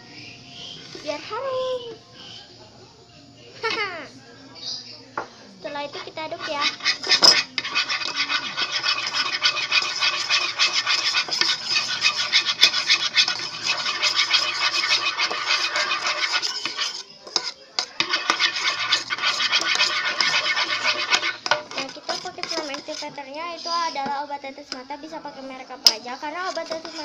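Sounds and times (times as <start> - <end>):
stirrer scraping a container: 0.6 - 1.4, 5.7 - 27.0.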